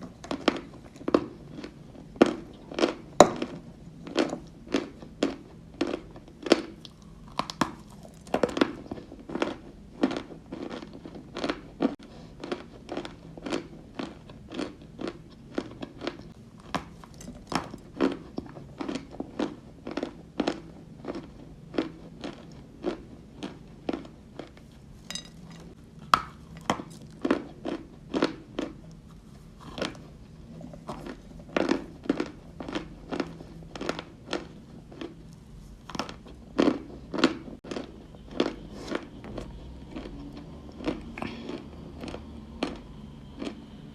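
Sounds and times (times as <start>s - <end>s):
chewing crunchy clay: 0.0s - 43.9s.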